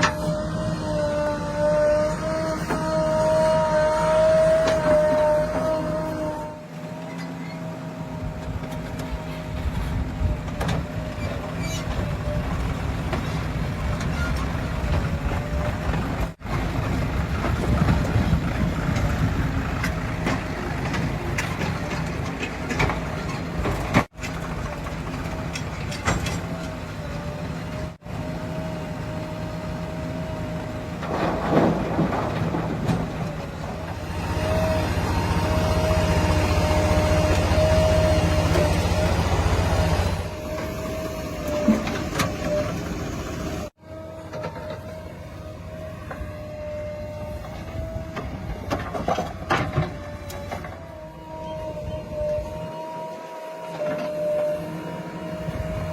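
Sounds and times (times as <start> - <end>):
diesel machinery engines running: 0.0 - 55.9.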